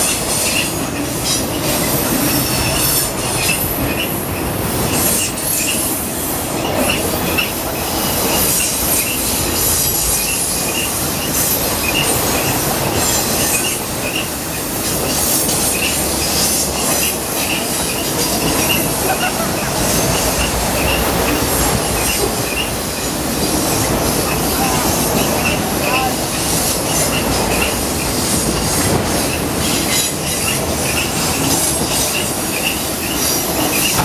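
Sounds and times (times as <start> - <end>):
steel wheels rolling on rail: 0.0 - 34.0.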